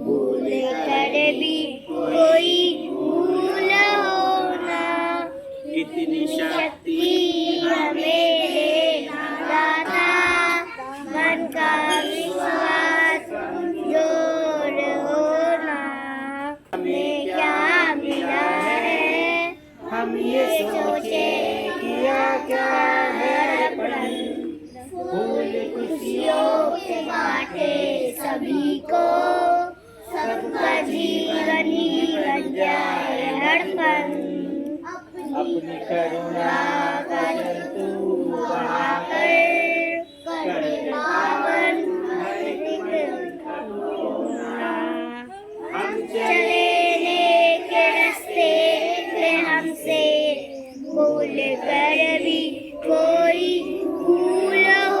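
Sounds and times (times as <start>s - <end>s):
children singing a prayer song: 0.0s - 55.0s.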